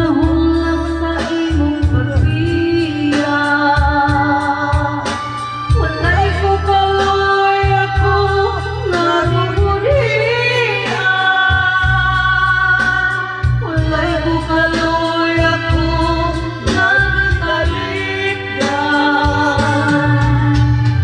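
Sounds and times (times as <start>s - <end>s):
karaoke backing music: 0.0s - 21.0s
woman singing into a microphone: 0.0s - 21.0s.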